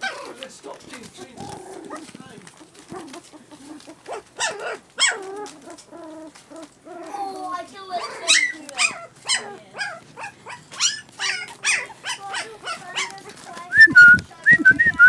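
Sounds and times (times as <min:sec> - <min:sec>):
puppies yapping and yelping: 0:00.0 - 0:00.5, 0:01.2 - 0:13.8.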